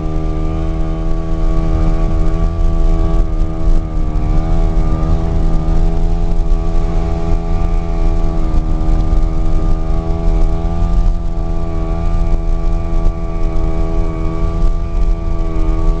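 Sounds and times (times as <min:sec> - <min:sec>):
road and wind rumble: 0:00.0 - 0:16.0
steady engine drone: 0:00.0 - 0:16.0.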